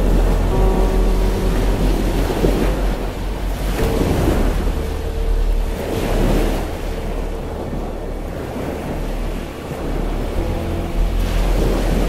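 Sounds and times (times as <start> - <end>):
sea waves: 0.0 - 12.0.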